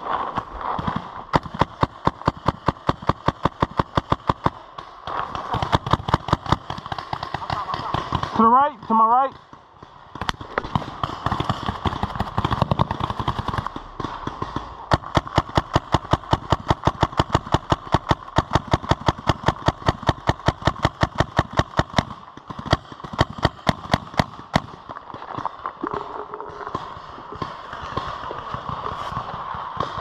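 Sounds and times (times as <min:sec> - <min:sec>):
paintball markers firing: 0:00.6 - 0:30.0.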